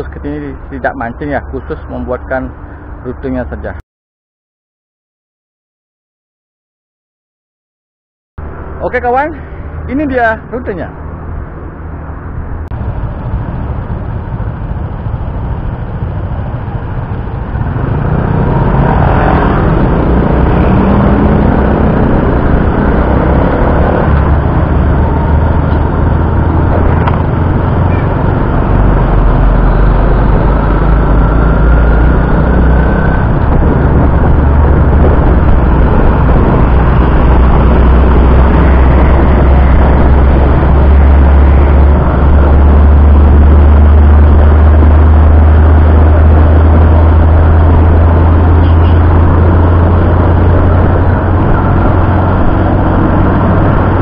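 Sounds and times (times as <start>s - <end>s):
road and wind rumble: 0.0s - 3.8s, 8.4s - 54.0s
vehicle engines in traffic: 0.0s - 3.8s, 8.4s - 54.0s.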